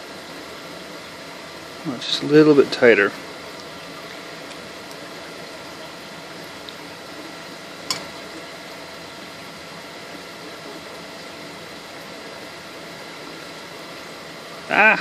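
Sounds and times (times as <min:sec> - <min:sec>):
faint hum: 0:00.1 - 0:15.0.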